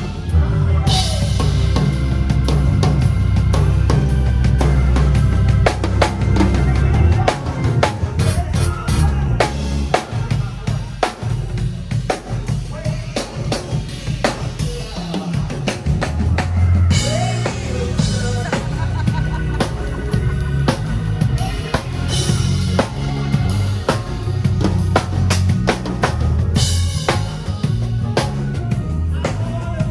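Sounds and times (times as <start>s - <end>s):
heavy bass line: 0.0s - 10.0s, 15.9s - 29.9s
drum kit hits: 0.0s - 29.9s.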